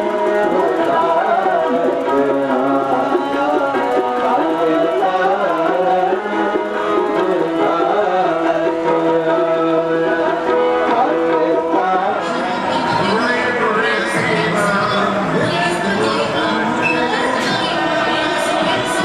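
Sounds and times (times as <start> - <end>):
person singing: 0.0 - 19.0
steady held notes: 0.0 - 19.0
tabla: 0.0 - 19.0.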